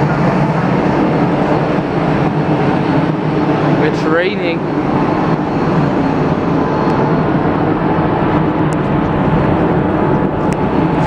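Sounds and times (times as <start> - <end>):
electric locomotive humming: 0.0 - 11.0.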